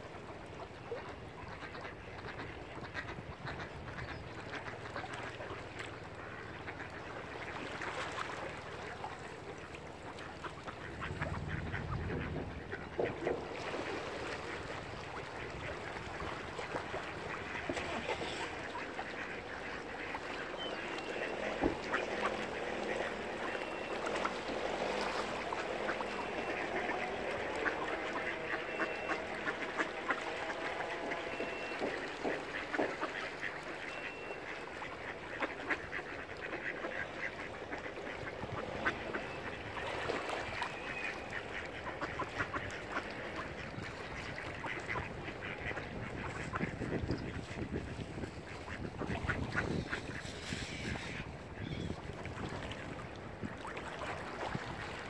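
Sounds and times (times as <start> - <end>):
ducks quacking: 0.2 - 52.1.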